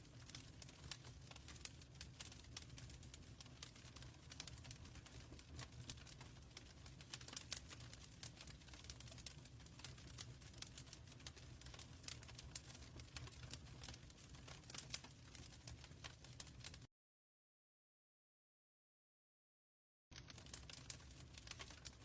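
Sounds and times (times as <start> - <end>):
low rumble of fire: 0.0 - 16.9, 20.2 - 22.0
wood fire crackling: 0.0 - 16.9, 20.1 - 22.0.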